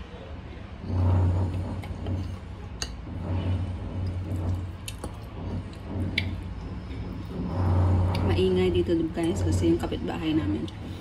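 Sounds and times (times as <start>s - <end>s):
renovation work rumbling: 0.0s - 11.0s.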